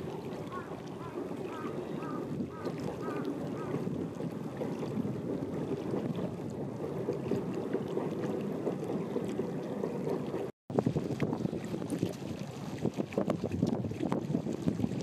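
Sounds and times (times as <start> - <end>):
water washing: 0.0 - 15.0
wind rumbling on microphone: 0.0 - 15.0.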